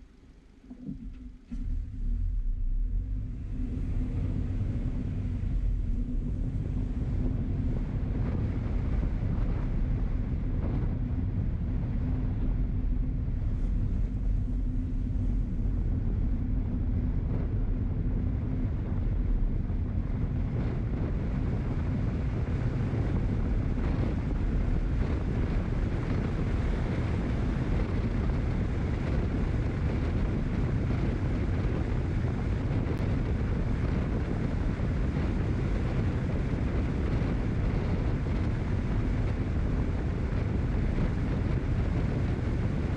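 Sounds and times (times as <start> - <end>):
low steady hum: 0.0 - 42.9
vehicle running noise: 0.0 - 42.9
wind buffeting microphone: 0.7 - 42.9.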